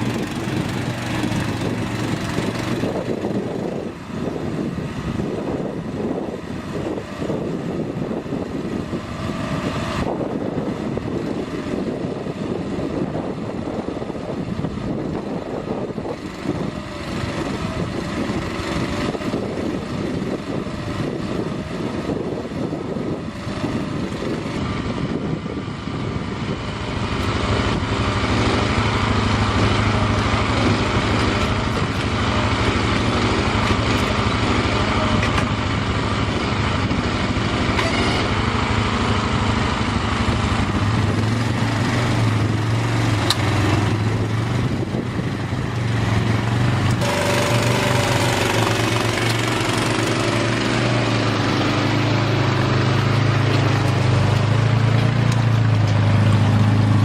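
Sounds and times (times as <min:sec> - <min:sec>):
small atv engine running: 0:00.0 - 0:57.0.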